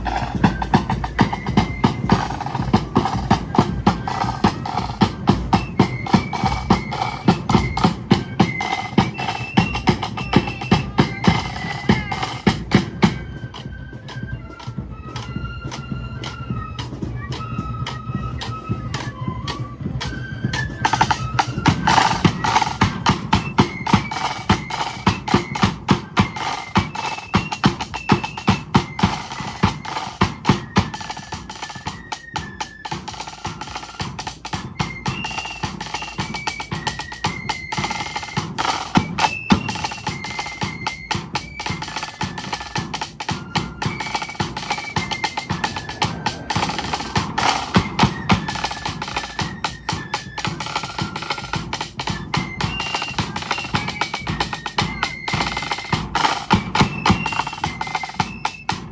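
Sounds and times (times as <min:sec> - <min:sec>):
flute melody: 0:00.0 - 0:58.9
snare drum rolls: 0:00.0 - 0:58.9.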